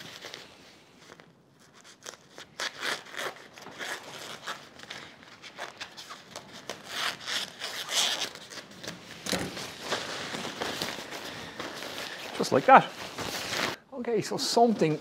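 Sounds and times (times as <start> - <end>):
fabric rustling: 0.0 - 13.8.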